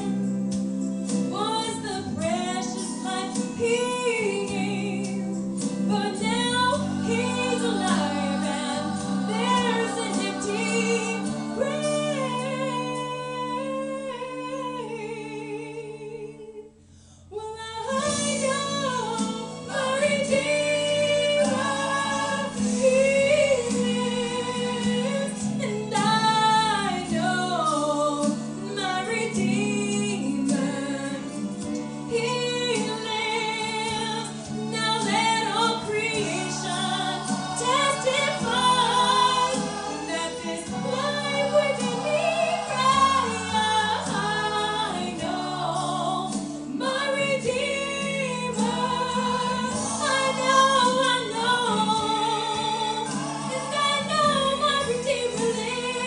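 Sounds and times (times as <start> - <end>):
low instrumental accompaniment: 0.0 - 14.2, 18.0 - 56.0
woman singing worship song: 0.0 - 56.0.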